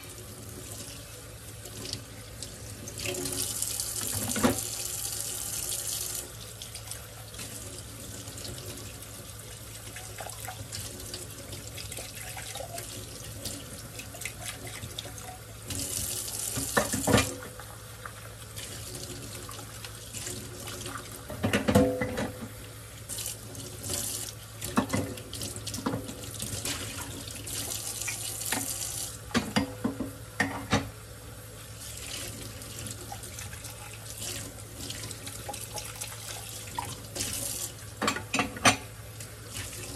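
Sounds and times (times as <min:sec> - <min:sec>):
faucet running into sink: 0:01.6 - 0:22.3, 0:23.1 - 0:29.7, 0:31.8 - 0:38.8.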